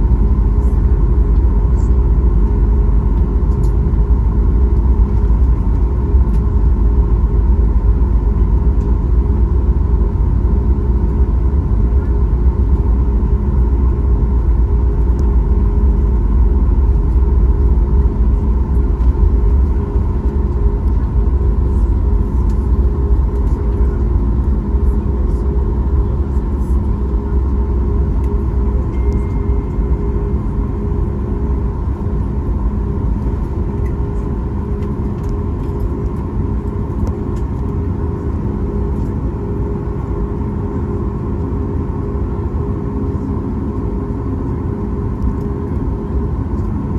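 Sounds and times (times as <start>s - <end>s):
jet engine deep rumble: 0.0s - 46.9s
jet engine whine: 0.0s - 46.9s.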